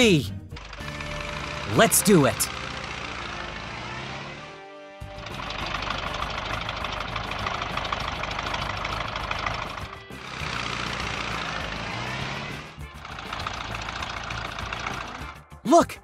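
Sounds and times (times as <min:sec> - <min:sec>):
truck engine running: 0:00.0 - 0:15.6
background music: 0:00.0 - 0:16.0.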